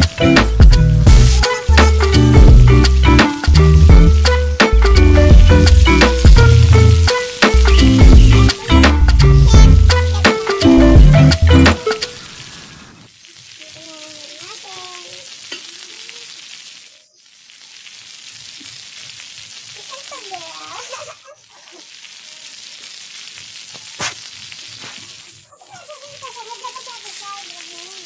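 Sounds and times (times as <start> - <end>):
chicken sizzling on a grill: 0.0 - 28.0.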